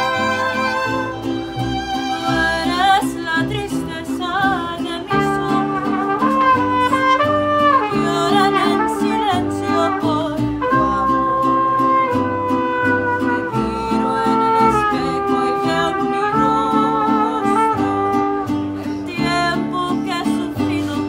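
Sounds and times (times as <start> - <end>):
woman singing with vibrato: 0.0 - 1.1, 2.1 - 21.0
strummed guitar chords: 0.0 - 21.0.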